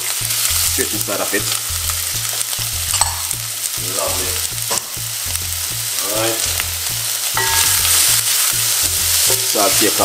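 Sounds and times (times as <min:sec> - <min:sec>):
onion and garlic sizzling in oil: 0:00.0 - 0:10.0.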